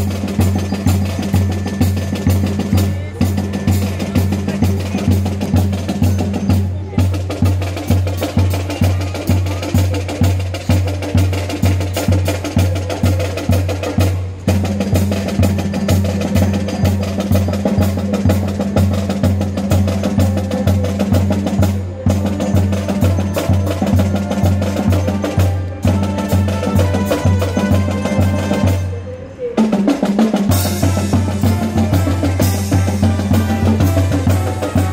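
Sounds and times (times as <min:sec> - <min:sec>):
brass band playing: 0:00.0 - 0:34.9
steady drum beat: 0:00.0 - 0:34.9.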